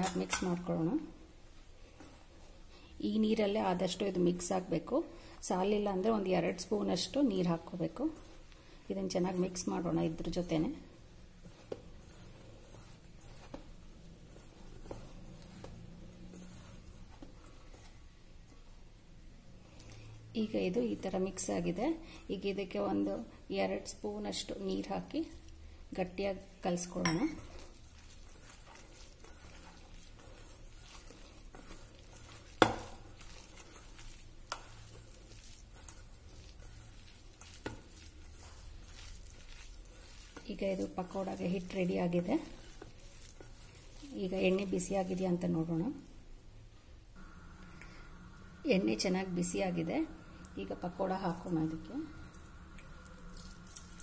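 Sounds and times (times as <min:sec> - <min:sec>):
hand mixing batter rustling: 0:00.0 - 0:54.0.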